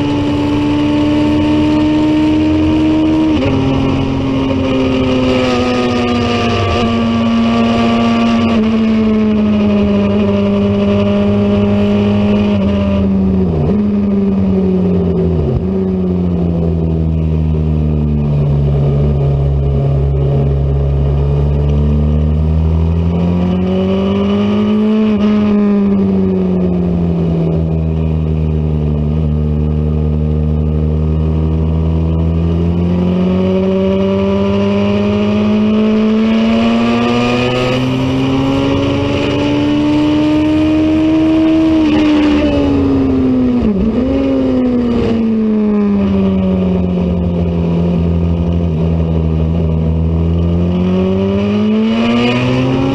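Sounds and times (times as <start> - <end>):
race motorcycle engine revving: 0.0 - 52.9.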